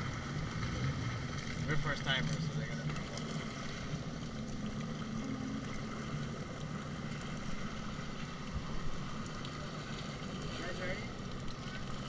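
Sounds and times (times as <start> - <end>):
jet ski engine droning: 0.0 - 12.0.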